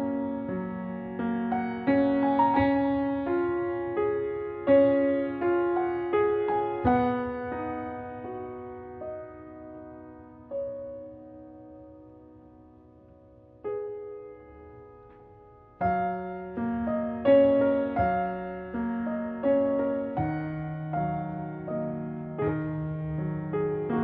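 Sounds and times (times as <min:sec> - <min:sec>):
slow gentle piano melody: 0:00.0 - 0:24.0.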